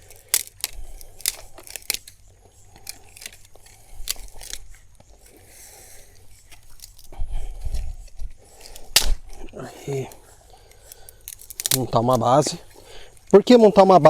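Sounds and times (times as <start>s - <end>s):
dry twigs crunching and snapping: 0.0s - 14.0s.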